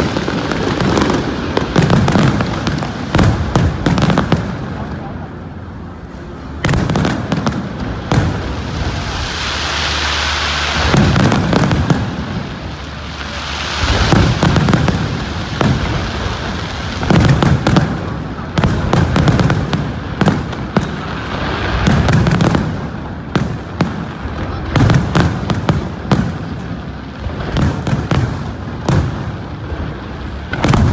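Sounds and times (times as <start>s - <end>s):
fireworks bangs and booms: 0.0s - 30.9s
fireworks hissing and crackling: 0.0s - 30.9s.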